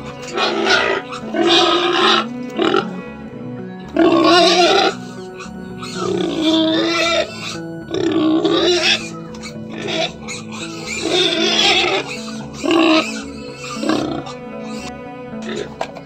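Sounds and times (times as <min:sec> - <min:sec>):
pig calling raspily: 0:00.0 - 0:03.0, 0:03.9 - 0:15.8.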